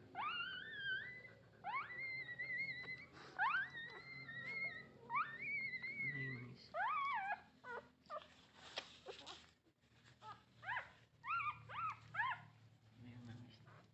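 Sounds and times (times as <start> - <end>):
puppies whimpering and squealing: 0.0 - 9.5, 10.1 - 12.6.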